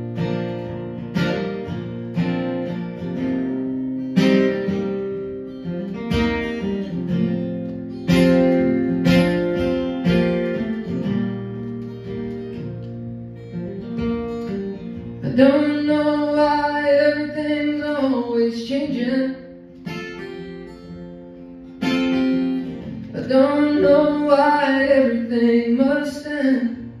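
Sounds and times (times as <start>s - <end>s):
acoustic guitars strumming chords: 0.0s - 27.0s.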